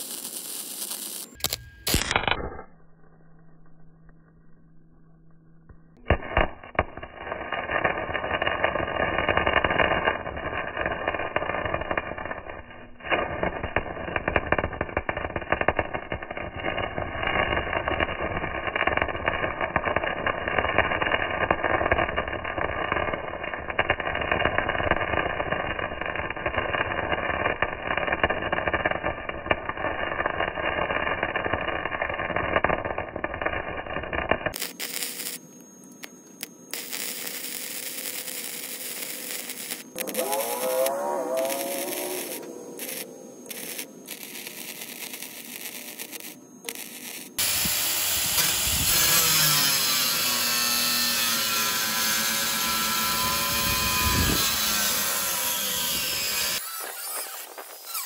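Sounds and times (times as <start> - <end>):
electric arc welding crackle: 0.0 - 2.6, 6.0 - 58.0.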